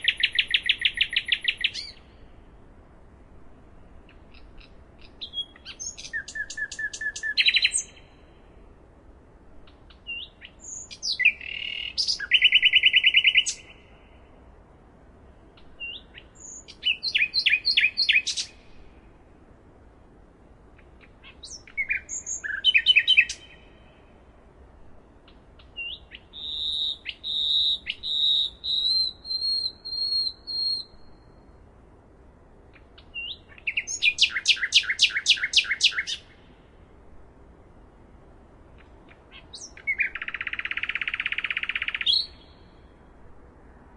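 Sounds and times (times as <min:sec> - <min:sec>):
nightingale singing: 0:00.0 - 0:02.4, 0:03.8 - 0:08.5, 0:09.6 - 0:14.6, 0:15.3 - 0:19.2, 0:20.7 - 0:31.7, 0:32.7 - 0:36.8, 0:38.7 - 0:43.1.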